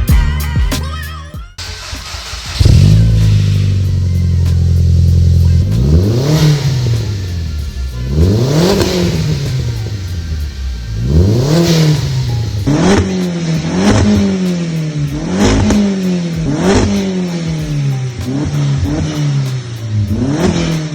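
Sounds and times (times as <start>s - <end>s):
car engine revving: 1.6s - 20.9s.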